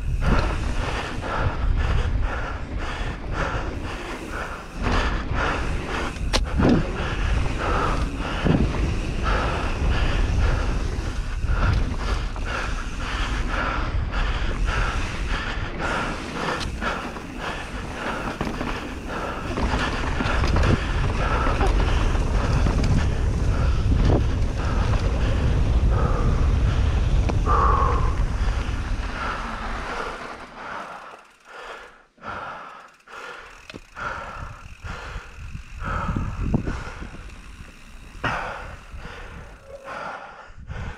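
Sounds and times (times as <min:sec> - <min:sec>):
wind buffeting microphone: 0:00.0 - 0:30.2, 0:33.8 - 0:39.8, 0:40.4 - 0:40.9
bike tyres rumbling on dirt trail: 0:00.0 - 0:40.9
person breathing heavily: 0:00.0 - 0:40.9.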